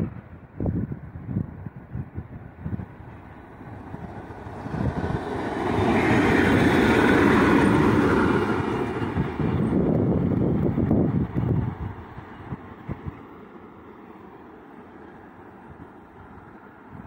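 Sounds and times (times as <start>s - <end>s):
diesel locomotive engine: 0.0s - 17.0s
wheels on rails: 0.0s - 17.0s.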